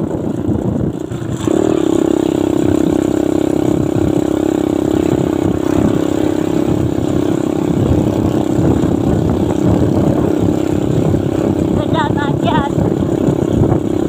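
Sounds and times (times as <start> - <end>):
vehicle engine under throttle: 0.0 - 14.0.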